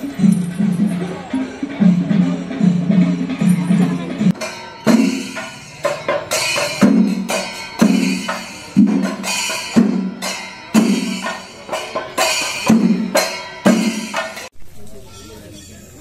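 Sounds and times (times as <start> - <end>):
drum ensemble playing: 0.0 - 14.5.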